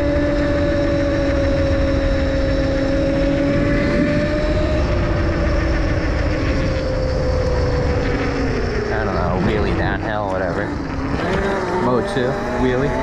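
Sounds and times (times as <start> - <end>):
electric motor whining: 0.0 - 13.0
wind rush: 0.0 - 13.0.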